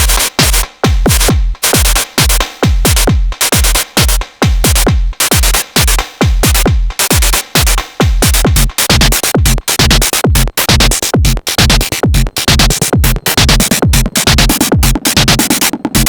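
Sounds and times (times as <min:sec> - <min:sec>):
techno drum machine beat: 0:00.0 - 0:16.0.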